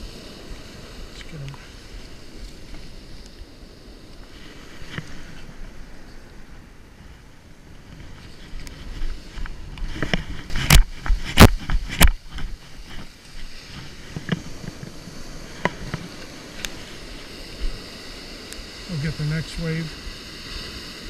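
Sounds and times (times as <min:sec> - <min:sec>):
ocean surf washing on sand: 0:00.0 - 0:21.0
wind rumble on microphone: 0:00.0 - 0:21.0.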